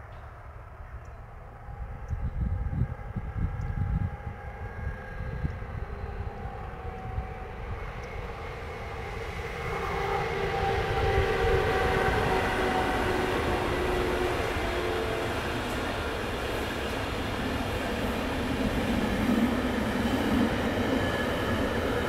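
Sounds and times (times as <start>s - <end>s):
wind buffeting microphone: 1.5s - 22.0s.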